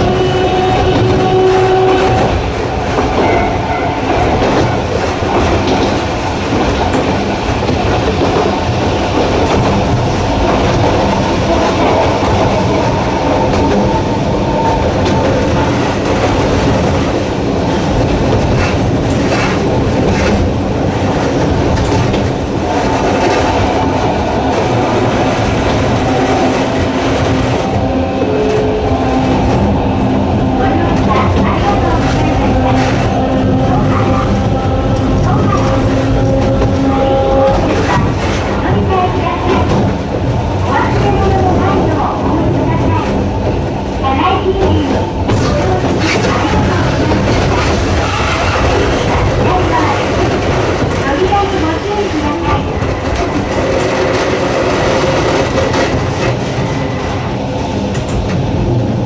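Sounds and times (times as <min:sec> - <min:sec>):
rail joints clacking: 0:00.0 - 0:59.0.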